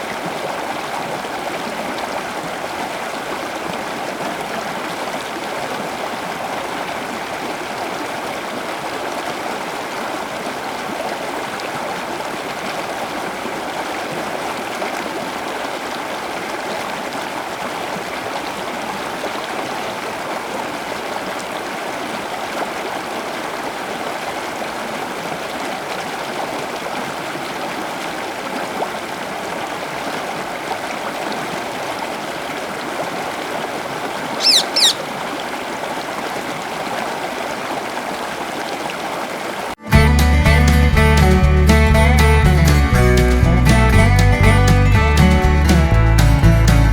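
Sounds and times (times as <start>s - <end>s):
running water: 0.0s - 46.9s.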